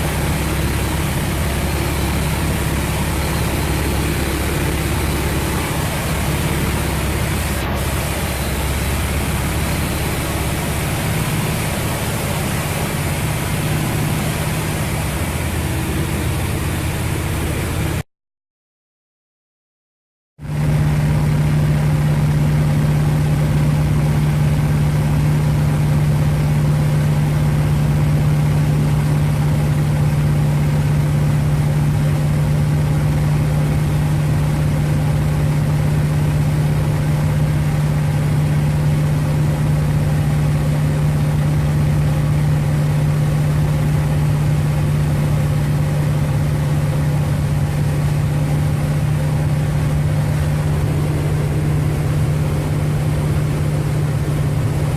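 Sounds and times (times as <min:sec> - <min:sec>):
radial aircraft engine droning: 0:00.0 - 0:18.0, 0:20.4 - 0:54.9.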